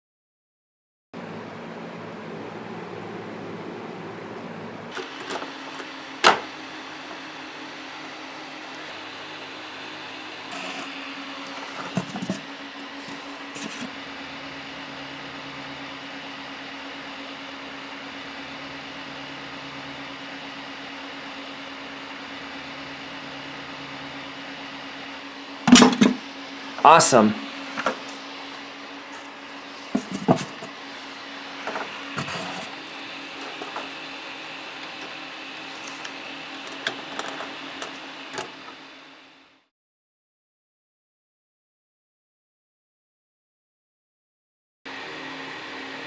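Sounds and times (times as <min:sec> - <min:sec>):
cooling fans humming: 0:01.2 - 0:39.6, 0:44.9 - 0:46.0.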